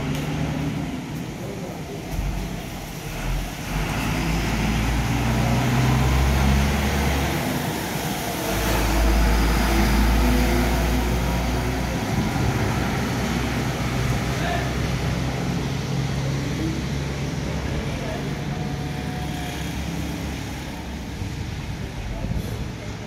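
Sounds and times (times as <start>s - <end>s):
vehicles passing on wet road: 0.0s - 23.0s.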